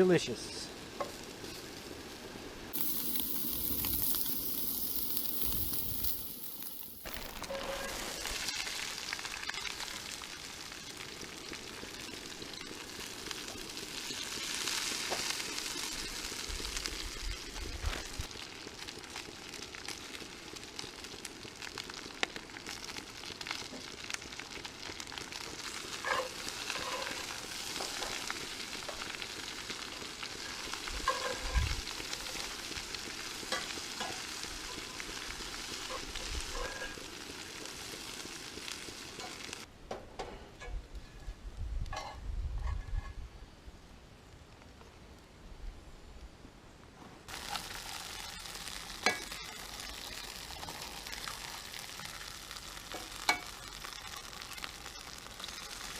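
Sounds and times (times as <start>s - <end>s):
food sizzling in a pan: 0.8s - 39.7s, 47.3s - 55.9s.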